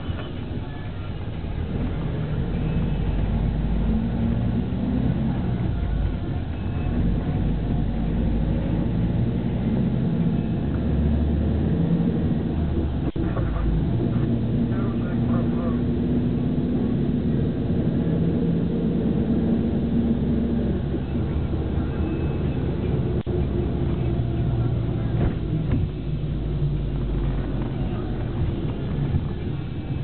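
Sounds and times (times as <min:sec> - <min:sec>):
bus engine: 0:00.0 - 0:30.0
road noise: 0:00.0 - 0:30.0.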